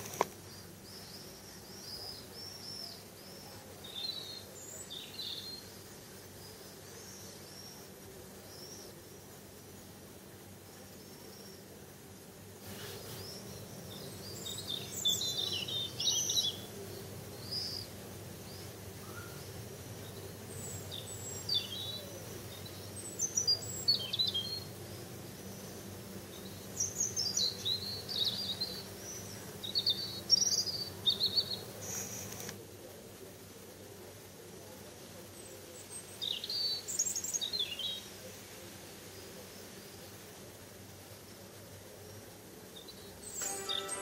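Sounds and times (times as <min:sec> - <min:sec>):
faint low hum: 0:00.0 - 0:44.0
songbirds chirping: 0:00.0 - 0:44.0.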